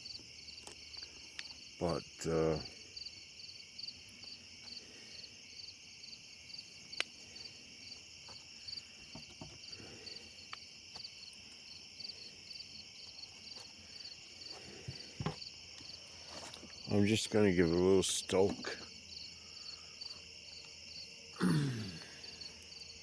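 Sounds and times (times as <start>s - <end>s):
cricket chirping: 0.0s - 23.0s
high insect trill: 0.0s - 23.0s.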